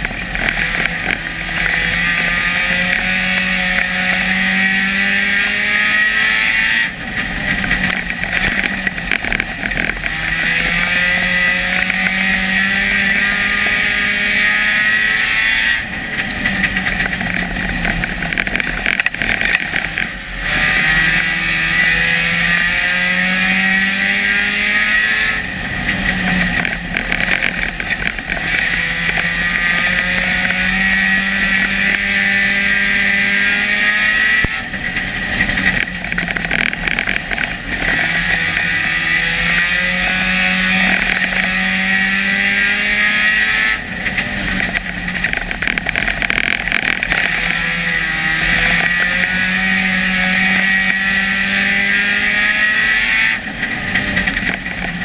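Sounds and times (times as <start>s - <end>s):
race car engine revving: 0.0s - 55.0s
rattling car noise: 0.0s - 55.0s.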